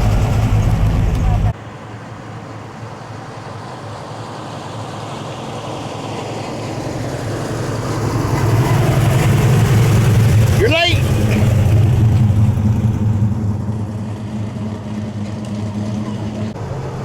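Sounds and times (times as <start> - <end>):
car engine running: 0.0 - 1.6, 2.5 - 16.9.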